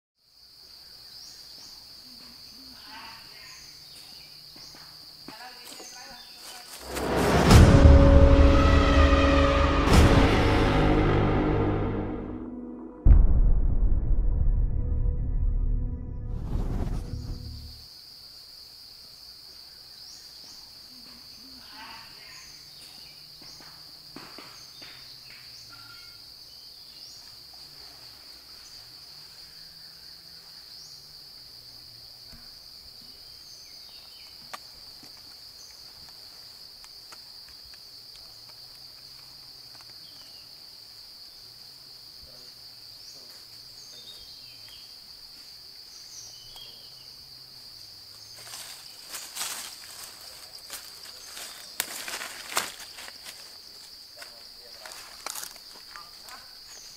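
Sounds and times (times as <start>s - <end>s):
insects droning: 0.2s - 9.8s, 16.2s - 56.9s.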